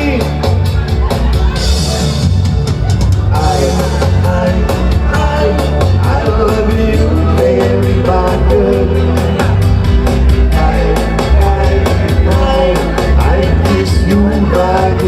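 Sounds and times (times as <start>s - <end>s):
live band playing rock-pop: 0.0s - 15.0s
person singing: 0.0s - 15.0s.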